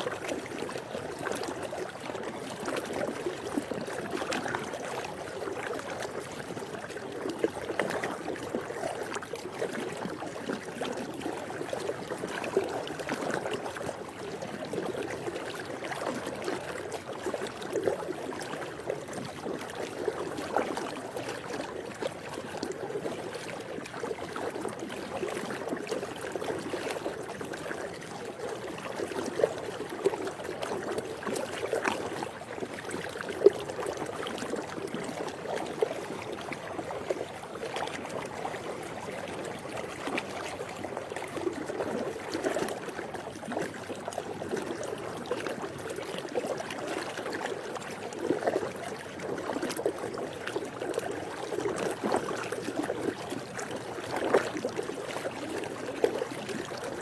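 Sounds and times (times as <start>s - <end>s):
pool water lapping: 0.0s - 57.0s.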